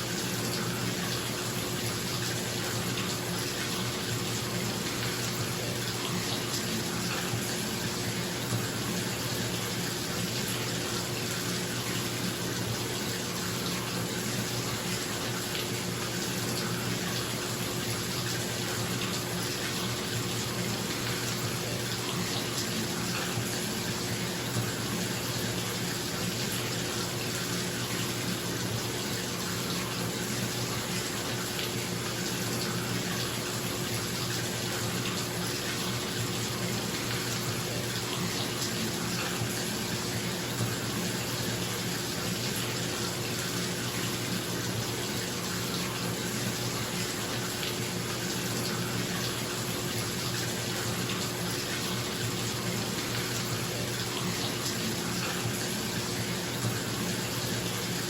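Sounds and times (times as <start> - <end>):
tap water pouring into tub: 0.0 - 58.0.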